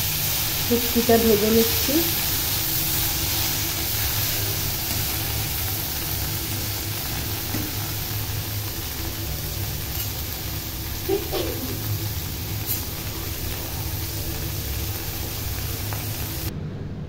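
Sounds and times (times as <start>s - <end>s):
fish sizzling in oil: 0.0s - 16.5s.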